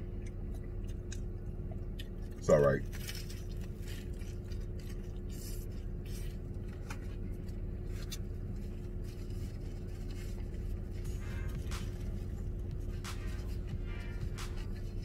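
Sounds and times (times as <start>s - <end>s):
car engine idling: 0.0s - 15.0s
man chewing food: 0.0s - 15.0s.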